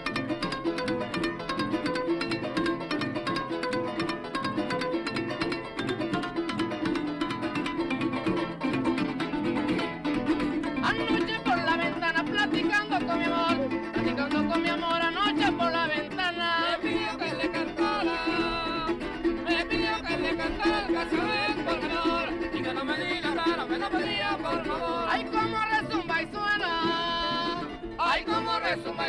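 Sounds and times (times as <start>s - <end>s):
lead melody with bending notes: 0.0s - 29.0s
strummed and plucked strings: 0.0s - 29.0s.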